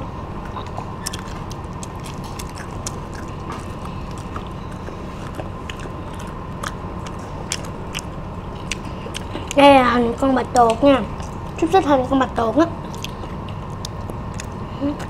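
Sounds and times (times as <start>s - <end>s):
steady low hum: 0.0s - 15.0s
crunching fried food: 0.5s - 11.8s, 12.8s - 15.0s.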